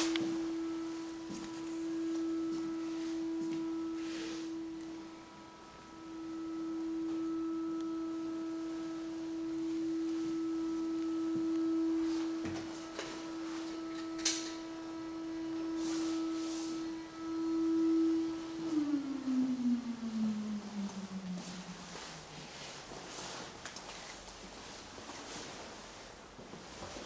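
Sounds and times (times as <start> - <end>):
steady pure tone: 0.0 - 27.0.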